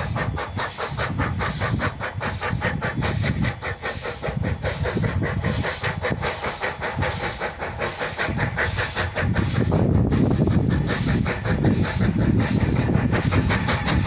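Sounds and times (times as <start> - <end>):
steam hissing: 0.0 - 14.0
steam locomotive chuffing: 0.0 - 14.0
train rumbling: 0.0 - 14.0.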